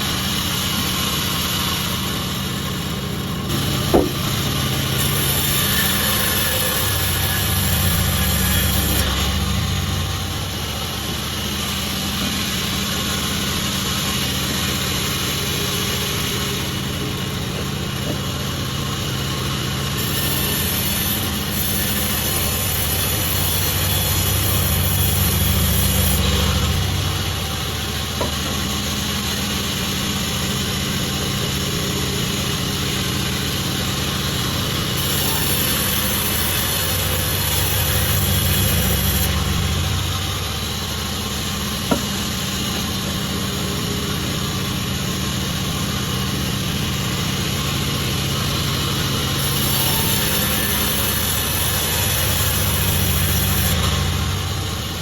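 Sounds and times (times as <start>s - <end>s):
sawmill engine hum: 0.0s - 55.0s.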